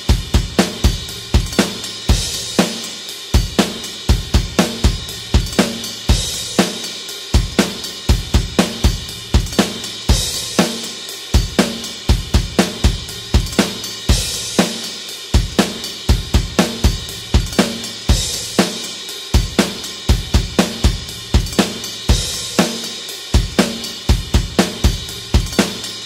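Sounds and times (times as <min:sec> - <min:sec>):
rock drum kit groove: 0:00.0 - 0:26.0.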